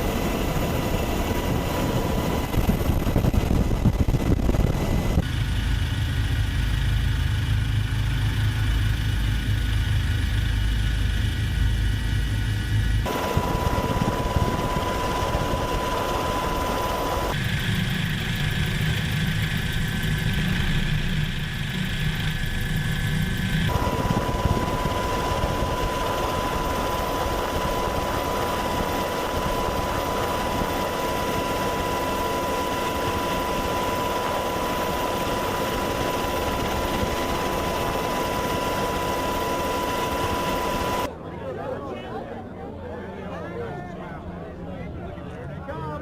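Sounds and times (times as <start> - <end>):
helicopter engine and rotor: 0.0 - 41.1
high whine: 0.0 - 41.1.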